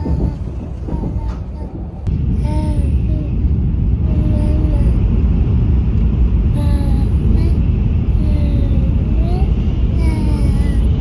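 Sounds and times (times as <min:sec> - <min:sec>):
train rumble inside cabin: 0:00.0 - 0:11.0.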